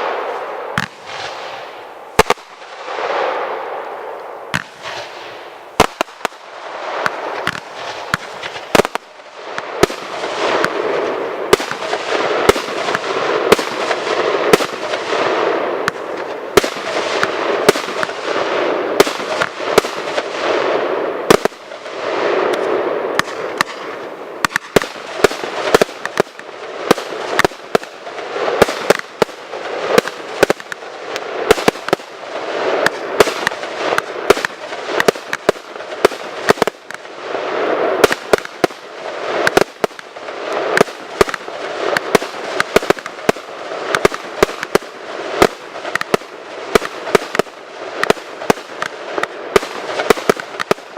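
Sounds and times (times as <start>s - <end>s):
fireworks sharp bangs: 0.0s - 50.9s.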